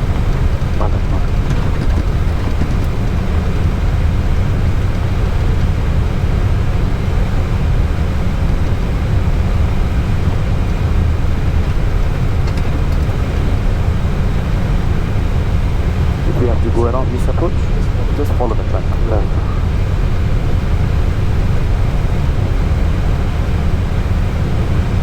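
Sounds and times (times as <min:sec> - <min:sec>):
cockpit engine and airflow drone: 0:00.0 - 0:25.0.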